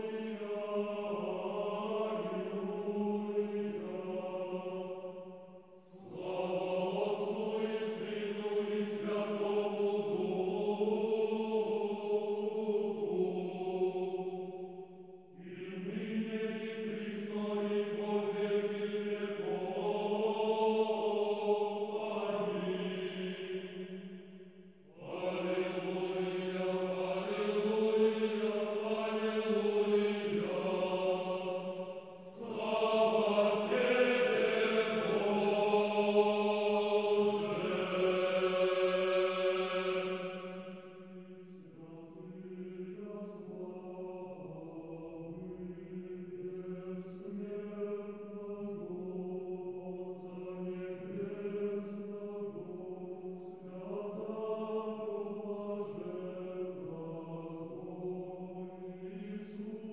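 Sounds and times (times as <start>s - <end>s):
choir singing chant: 0.0s - 59.9s.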